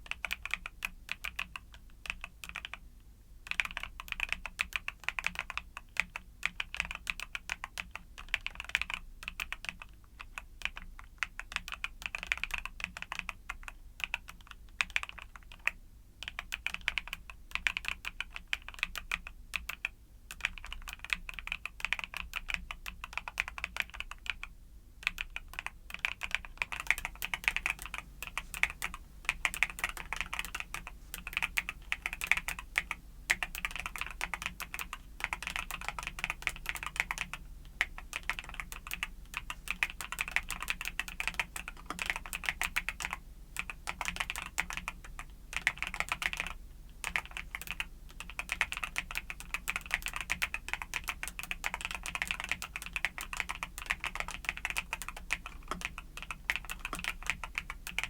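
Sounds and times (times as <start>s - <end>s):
mechanical keyboard typing: 0.0s - 2.8s, 3.4s - 58.0s.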